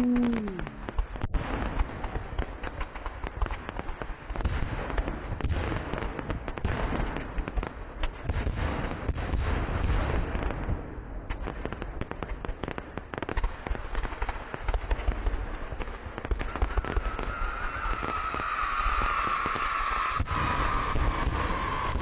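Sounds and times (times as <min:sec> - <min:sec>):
fireworks crackling and popping: 0:00.0 - 0:22.0
low fireworks bangs: 0:00.0 - 0:22.0.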